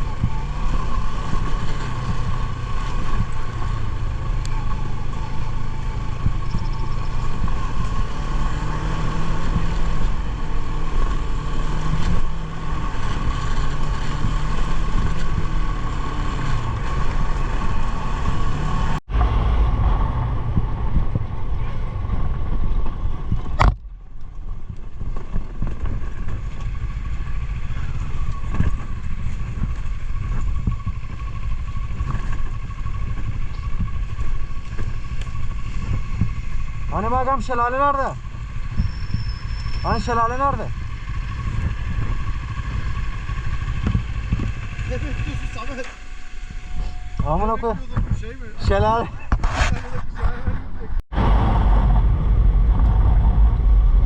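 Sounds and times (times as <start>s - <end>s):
motorcycle engine running: 0.0s - 49.3s
wind noise on microphone: 0.0s - 54.0s.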